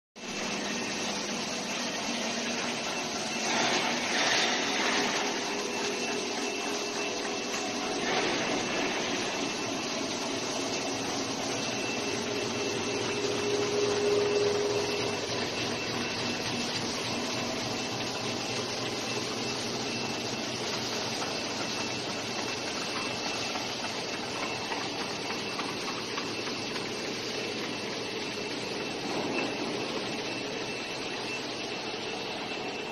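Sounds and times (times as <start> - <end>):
faint high whine: 0.2 - 32.9
low machine hum: 0.2 - 32.9
milling machine whirring: 0.2 - 32.9.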